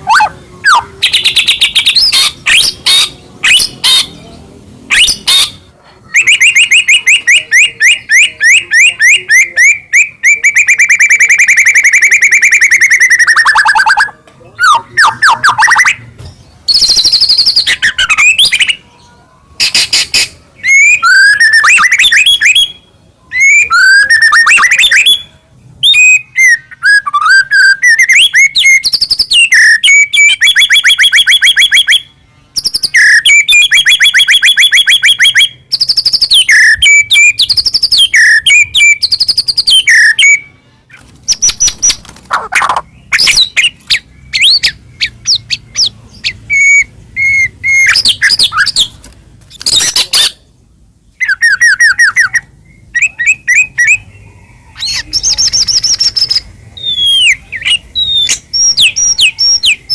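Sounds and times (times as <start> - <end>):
songbird singing varied song: 0.0 - 59.9.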